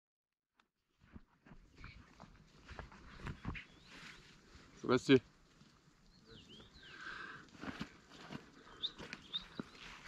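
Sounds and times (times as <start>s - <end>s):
hooves thudding on grass: 1.0s - 6.8s, 7.4s - 10.0s.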